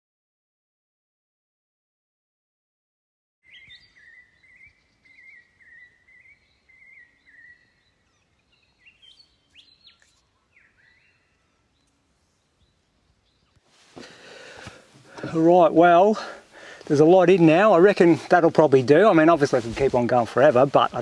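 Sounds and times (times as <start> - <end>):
birds calling: 3.5 - 21.0
faint outdoor hiss: 3.5 - 21.0.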